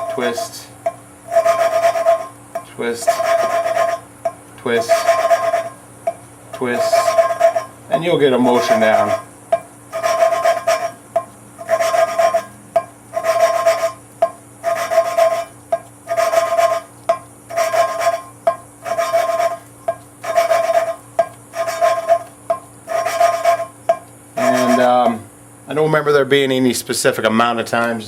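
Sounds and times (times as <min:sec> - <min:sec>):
valve lapping gritty rasping: 0:00.0 - 0:25.2.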